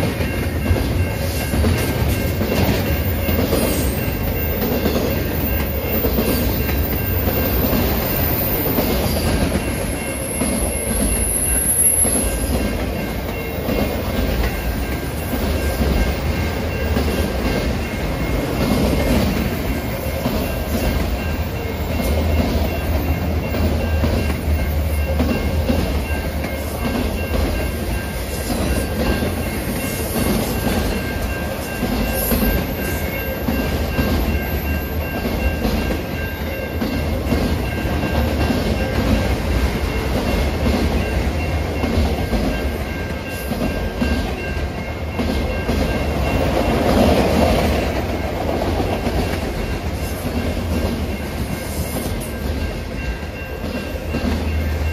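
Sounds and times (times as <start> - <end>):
steel wheels rumbling on rails: 0.0 - 54.9.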